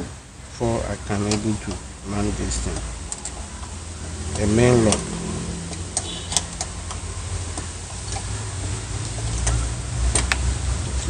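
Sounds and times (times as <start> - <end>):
car door parts clicking: 1.1 - 10.6
low rumble: 1.8 - 11.0.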